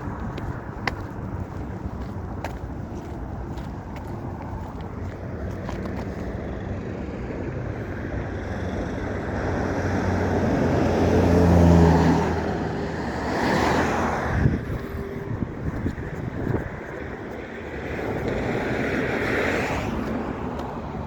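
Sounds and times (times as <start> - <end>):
vehicle passing: 0.0 - 21.0.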